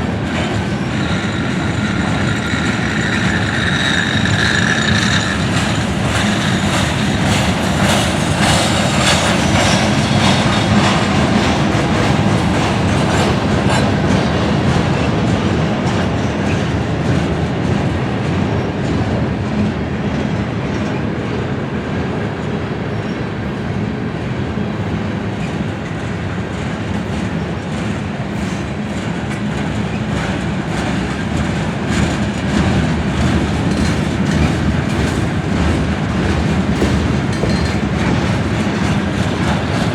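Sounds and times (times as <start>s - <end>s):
train wheels clacking: 0.0s - 21.0s, 24.9s - 39.9s
train rumble: 0.0s - 39.9s.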